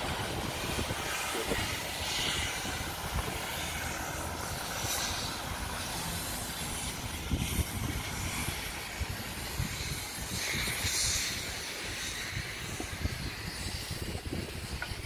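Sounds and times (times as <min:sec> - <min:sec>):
hissing rush: 0:00.0 - 0:15.0
street traffic rumble: 0:00.0 - 0:15.0.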